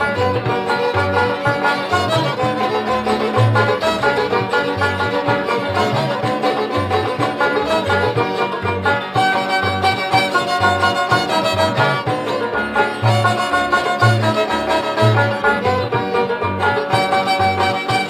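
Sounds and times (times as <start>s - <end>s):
upbeat instrumental with fiddle: 0.0s - 18.0s.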